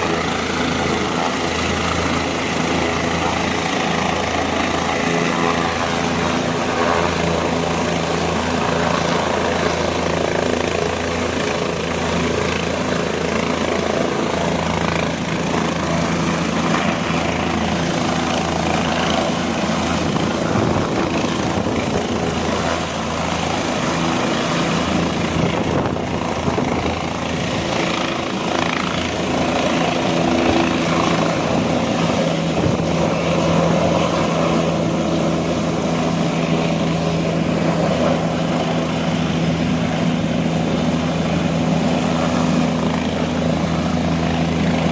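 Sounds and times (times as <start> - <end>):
helicopter in flight: 0.0 - 44.9.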